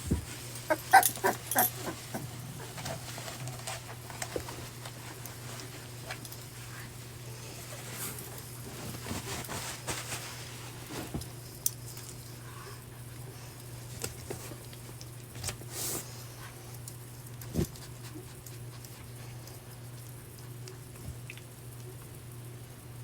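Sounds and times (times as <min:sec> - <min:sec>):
puppies rustling in bedding: 0:00.0 - 0:21.3.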